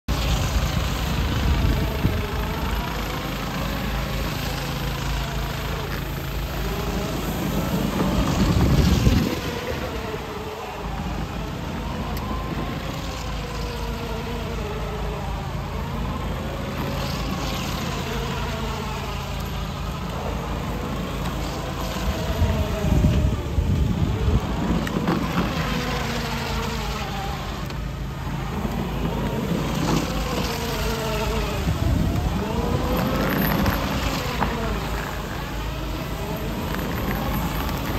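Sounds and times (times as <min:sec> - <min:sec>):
electric go-kart motor whining: 0:00.1 - 0:37.9.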